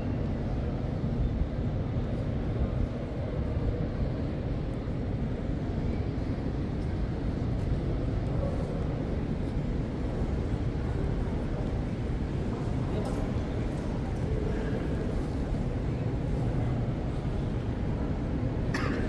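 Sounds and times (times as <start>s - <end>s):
low room noise rumble: 0.0s - 19.0s.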